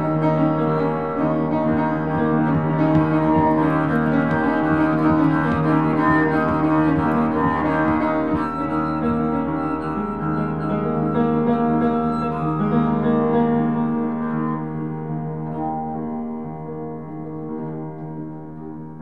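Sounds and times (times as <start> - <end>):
upright piano playing: 0.0 - 19.0.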